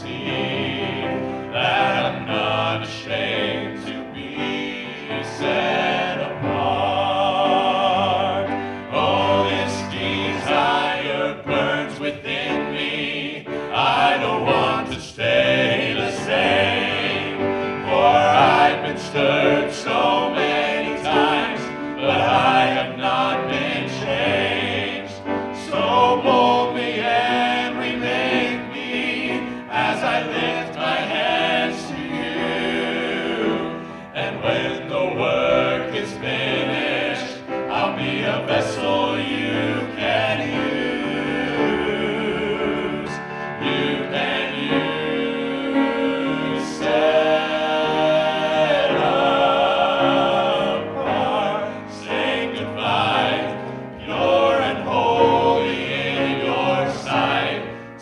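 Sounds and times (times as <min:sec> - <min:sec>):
musical accompaniment: 0:00.0 - 0:58.0
vocal group singing gospel: 0:00.0 - 0:58.0.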